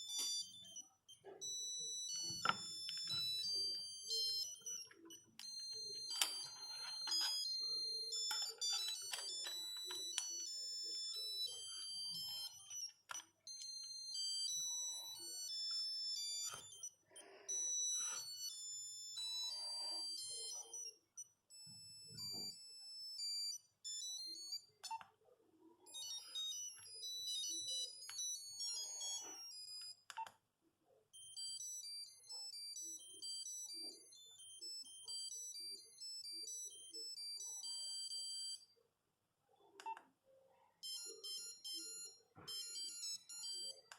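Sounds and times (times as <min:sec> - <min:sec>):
monophonic phone ringtones: 0:00.0 - 0:25.0, 0:25.8 - 0:30.3, 0:31.1 - 0:38.7, 0:40.8 - 0:43.9.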